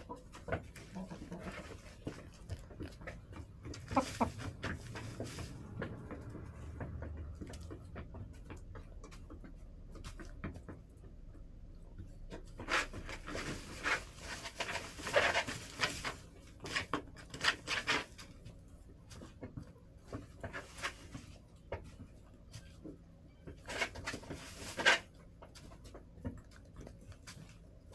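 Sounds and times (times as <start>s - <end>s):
hens pecking and scratching: 0.0s - 27.9s.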